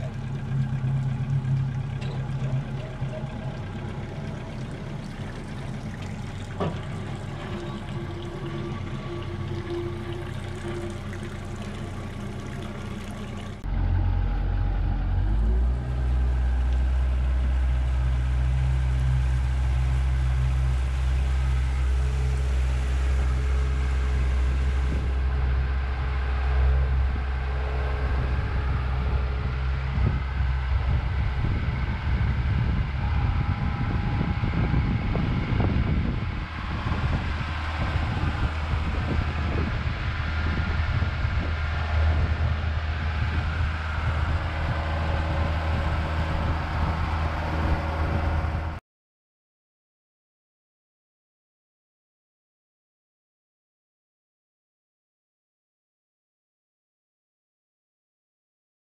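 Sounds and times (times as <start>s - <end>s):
engine starting and running: 0.0s - 48.8s.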